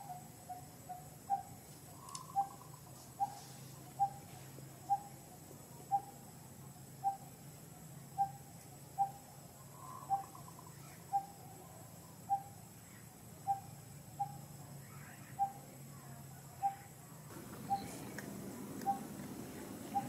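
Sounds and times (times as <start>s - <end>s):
bird hooting: 0.0s - 6.2s, 7.0s - 7.4s, 8.2s - 11.6s, 12.2s - 15.6s, 16.6s - 20.0s.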